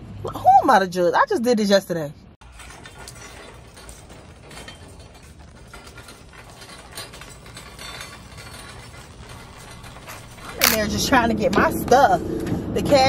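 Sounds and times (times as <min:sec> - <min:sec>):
wire shopping cart rattling: 0:02.4 - 0:13.0.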